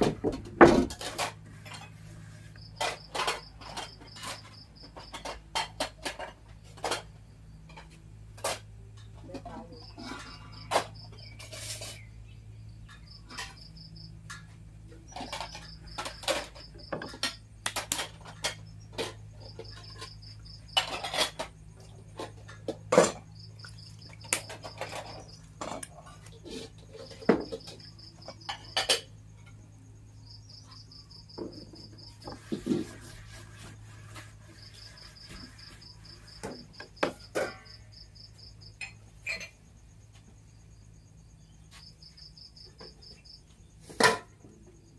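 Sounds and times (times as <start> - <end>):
pots and dishes clattering: 0.0 - 12.1, 12.8 - 29.6, 31.2 - 38.0, 38.7 - 39.7, 42.8 - 44.8
cricket chirping: 0.0 - 44.9.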